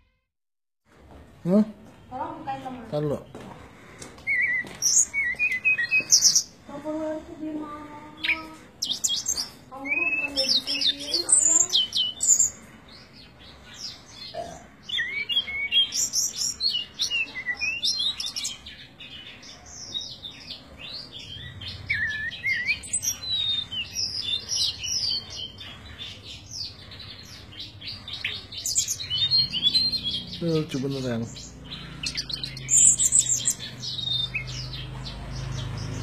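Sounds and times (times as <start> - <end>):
small birds chirping and twittering: 0.9 - 36.0.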